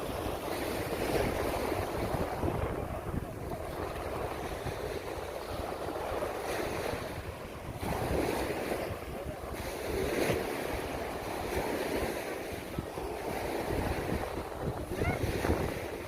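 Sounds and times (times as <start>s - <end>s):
sea waves washing onto beach: 0.0s - 16.0s
wind buffeting microphone: 0.0s - 16.0s.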